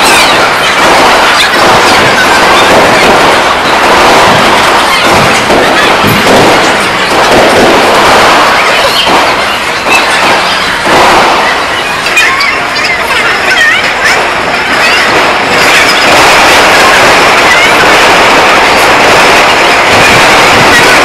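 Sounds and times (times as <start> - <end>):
fireworks bangs: 0.0 - 21.0
fireworks crackling bursts: 0.0 - 21.0.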